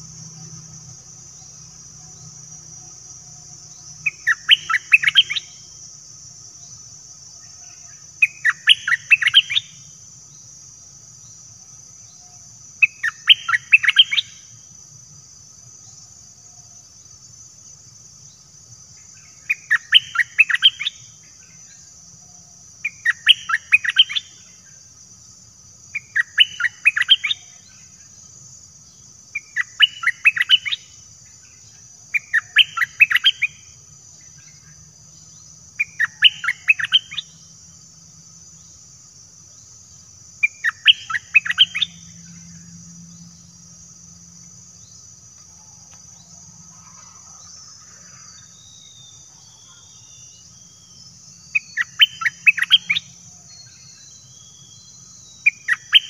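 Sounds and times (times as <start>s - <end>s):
bird singing: 0.0s - 56.0s
high-pitched insect drone: 0.0s - 56.0s.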